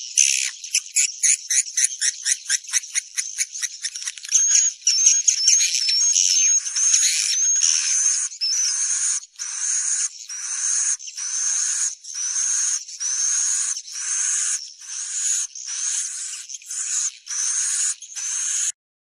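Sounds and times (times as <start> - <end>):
swiftlet chirping calls: 0.0 - 18.8.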